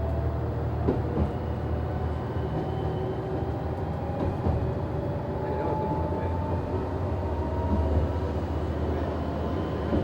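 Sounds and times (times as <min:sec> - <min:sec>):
diesel railcar rumble and whine: 0:00.0 - 0:10.0.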